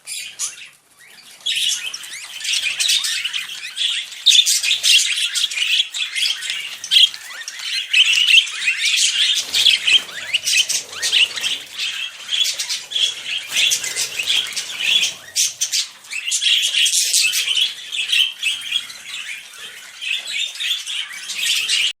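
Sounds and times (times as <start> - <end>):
budgerigar warbling and chattering: 0.1 - 21.9.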